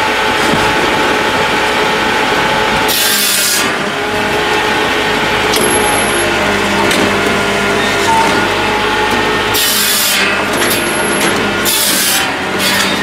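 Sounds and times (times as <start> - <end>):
firewood processor sawing and splitting: 0.0 - 13.0.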